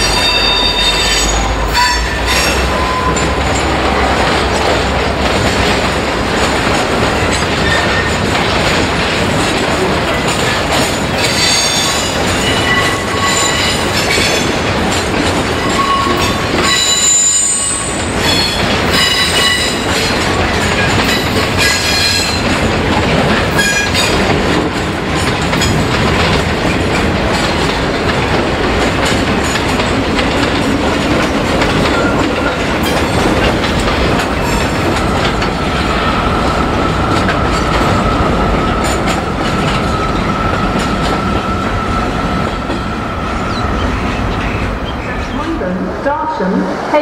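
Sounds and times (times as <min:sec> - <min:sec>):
train wheel clatter: 0:00.0 - 0:45.7
freight train rumble: 0:00.0 - 0:47.0.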